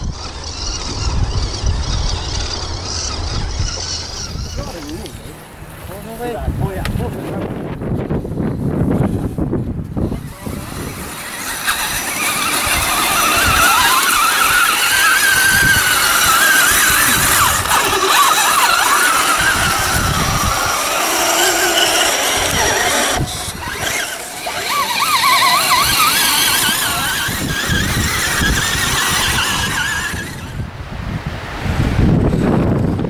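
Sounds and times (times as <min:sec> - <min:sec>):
toy truck electric motors whining: 0:00.0 - 0:05.4, 0:08.8 - 0:30.6.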